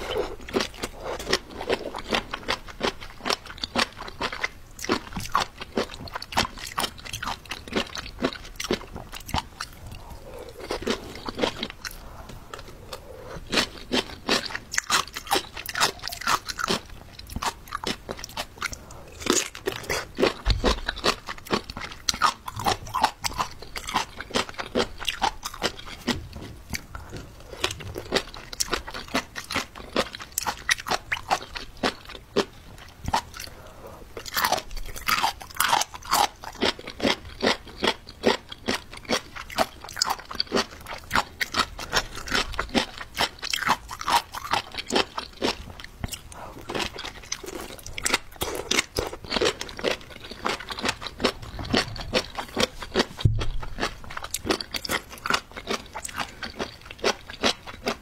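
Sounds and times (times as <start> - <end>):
crunchy food chewing: 0.0 - 58.0.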